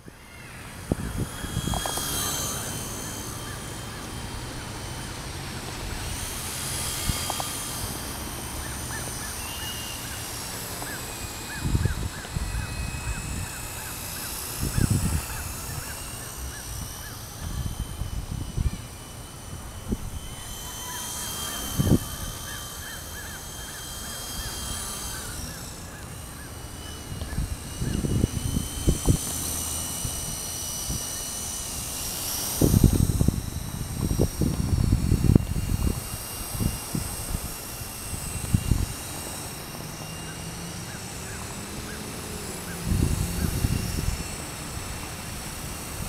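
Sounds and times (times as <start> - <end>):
wind rumble on microphone: 0.0 - 8.8, 10.0 - 20.7, 21.5 - 25.6, 26.4 - 39.6, 42.5 - 46.0
low steady hum: 0.0 - 46.0
toy helicopter motor whining: 0.0 - 46.0.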